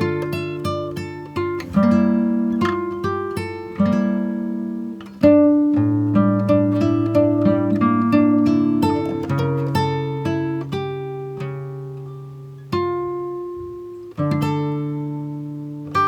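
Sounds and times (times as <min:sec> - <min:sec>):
acoustic guitar picking: 0:00.0 - 0:16.0.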